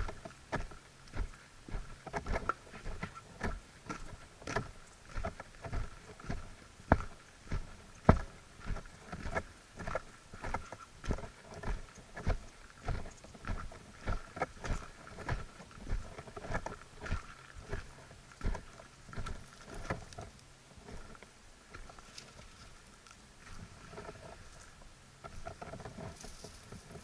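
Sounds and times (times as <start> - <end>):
footsteps on dirt path: 0.0 - 27.0.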